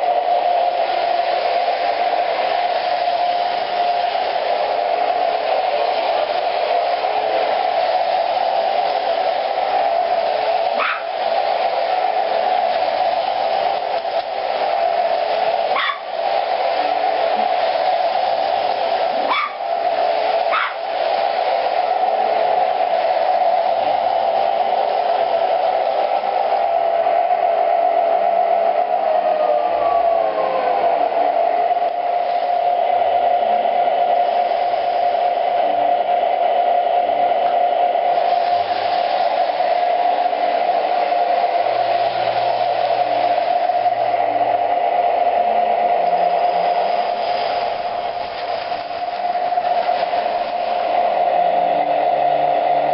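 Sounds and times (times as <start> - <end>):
model train whining: 0.0 - 52.9.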